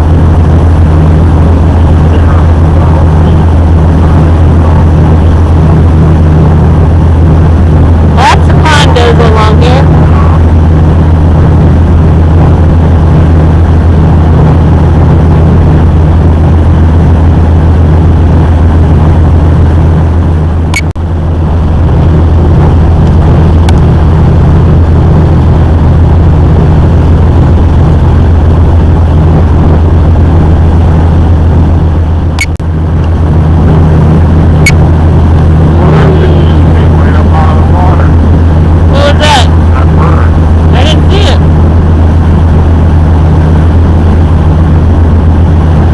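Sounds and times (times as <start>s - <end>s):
boat engine droning: 0.0s - 45.9s
rushing noise: 0.0s - 45.9s.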